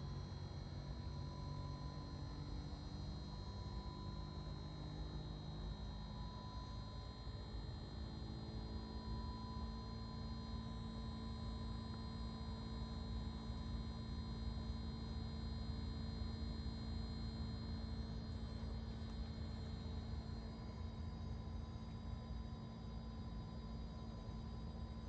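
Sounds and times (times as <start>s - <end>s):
faint high whining tones: 0.0s - 25.0s
heat pump outdoor unit humming: 0.0s - 25.0s.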